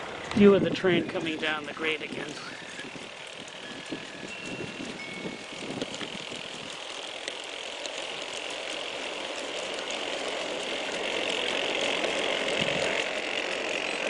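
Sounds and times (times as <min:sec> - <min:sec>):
model train whirring on track: 0:00.0 - 0:14.0.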